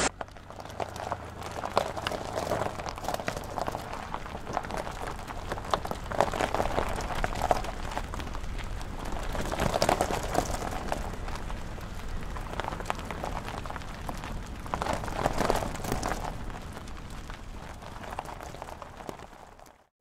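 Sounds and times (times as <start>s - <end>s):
car engine rumble: 0.0s - 19.8s
irregular crackling: 0.0s - 19.8s.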